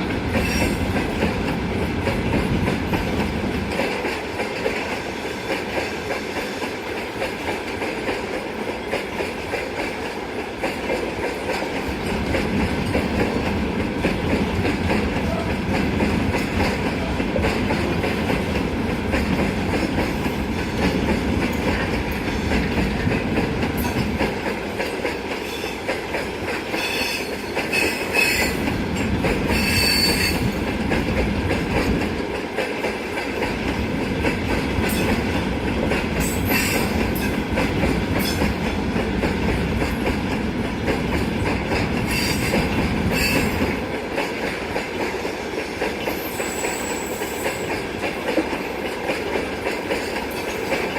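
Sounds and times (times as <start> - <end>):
train wheels clattering: 0.0 - 50.9.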